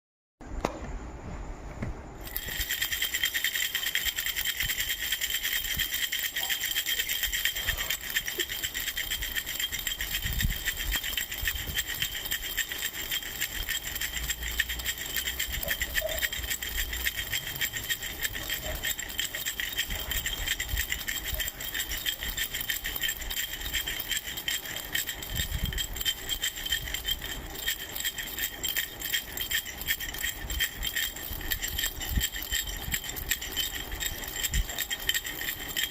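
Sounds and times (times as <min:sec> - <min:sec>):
baby rattle shaken: 0:02.2 - 0:35.9.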